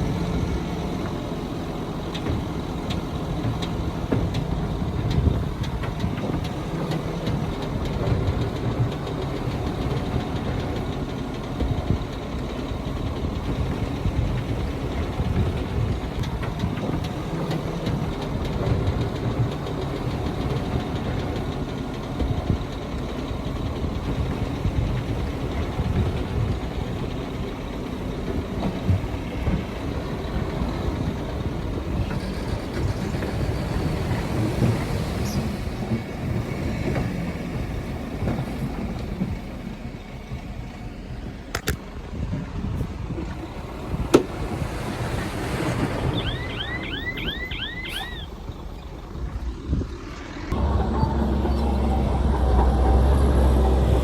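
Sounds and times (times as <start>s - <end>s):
heavy diesel machinery rumbling: 0.0s - 54.0s.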